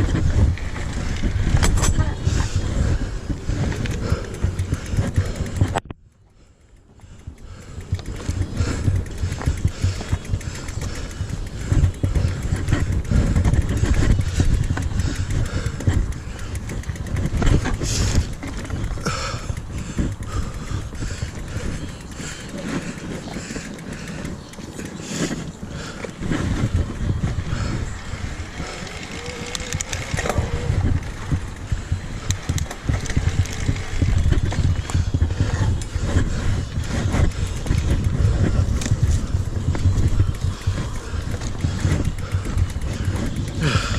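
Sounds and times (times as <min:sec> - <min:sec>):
bike rattling over bumps: 0:00.0 - 0:43.9
wind buffeting microphone: 0:00.0 - 0:43.9.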